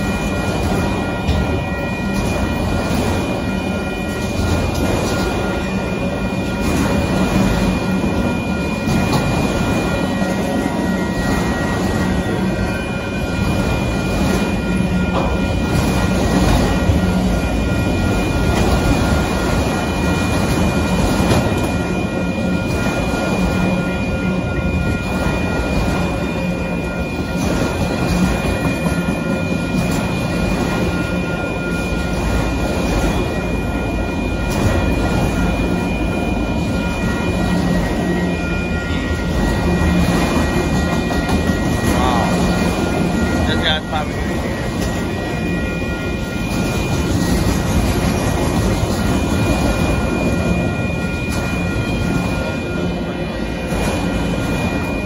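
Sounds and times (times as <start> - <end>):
steady high tones: 0.0 - 55.0
steel wheels rumbling on rails: 0.0 - 55.0.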